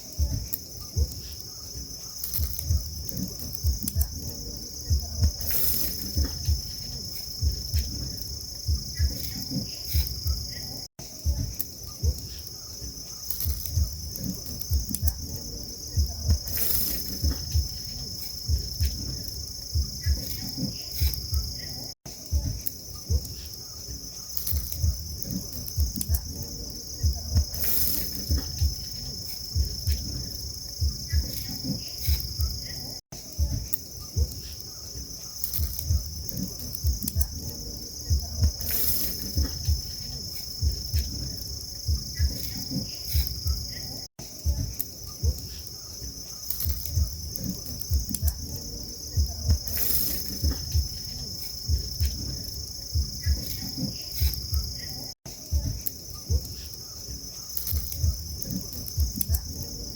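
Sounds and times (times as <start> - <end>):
low thumps near microphone: 0.0 - 1.3, 2.4 - 12.4, 13.5 - 21.7, 22.3 - 23.4, 24.6 - 32.7, 35.6 - 43.8, 44.4 - 45.6, 46.7 - 54.9, 55.5 - 56.6, 57.8 - 59.8
insect chorus trilling: 0.0 - 59.9.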